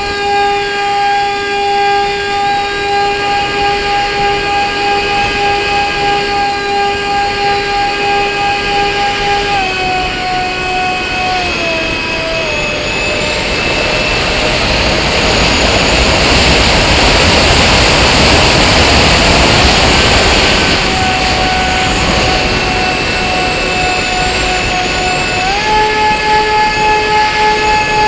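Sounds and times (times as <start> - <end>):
electric motor and propeller whining: 0.0 - 28.0
wind rush: 2.3 - 28.0.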